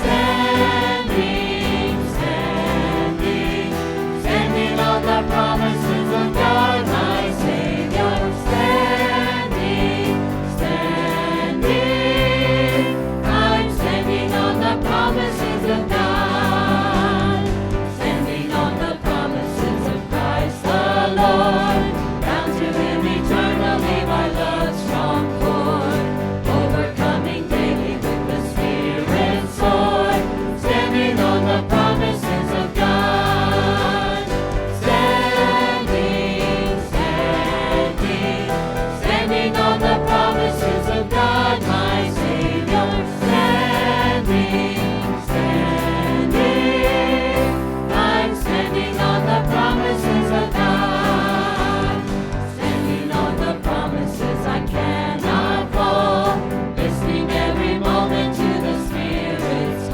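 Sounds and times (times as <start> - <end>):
congregation singing a hymn: 0.0 - 59.9
instrumental accompaniment: 0.0 - 59.9.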